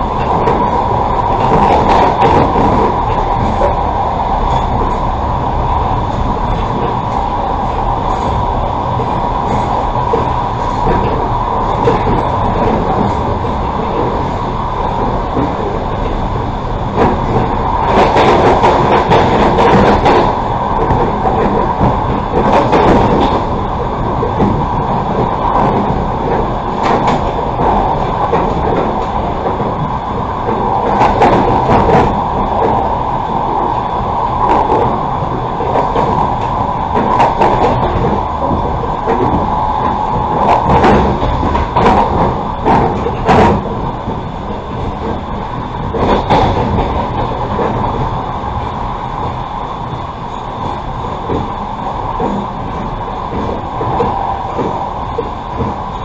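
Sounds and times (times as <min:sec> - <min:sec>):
clicks of train wheels: 0:00.0 - 0:56.0
train hum: 0:00.0 - 0:56.0
train wheels rumbling on rails: 0:00.0 - 0:56.0.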